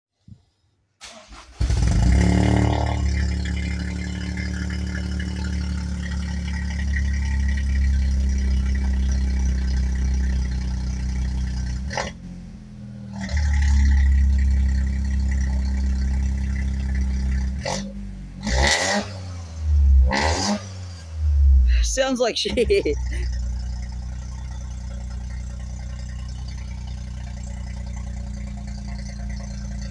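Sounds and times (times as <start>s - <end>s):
car engine starting and idling: 1.0s - 29.9s.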